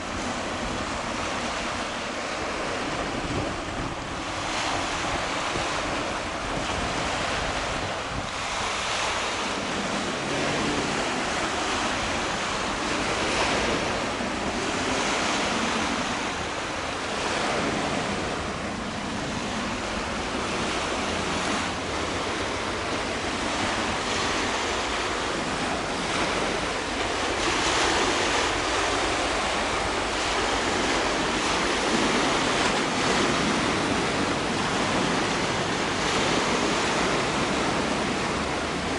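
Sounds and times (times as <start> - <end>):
sea water washing: 0.0 - 38.9
wind buffeting microphone: 0.0 - 38.9.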